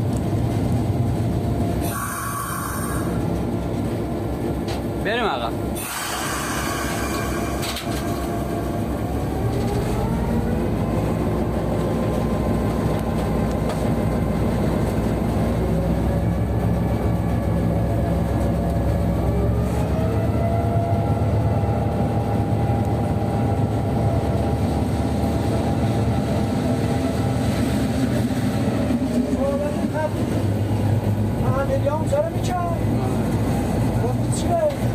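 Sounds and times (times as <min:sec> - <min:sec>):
diesel locomotive engine: 0:00.0 - 0:34.9.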